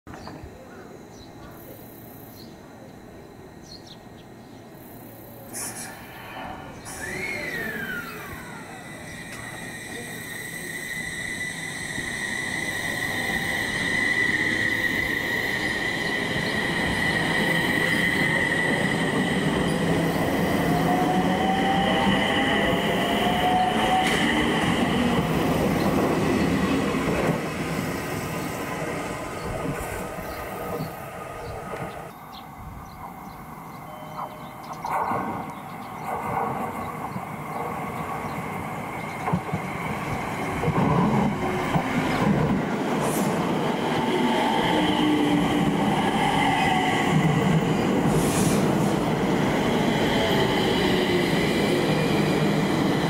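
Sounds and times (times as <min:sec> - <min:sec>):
train running on track: 0:00.1 - 0:53.0.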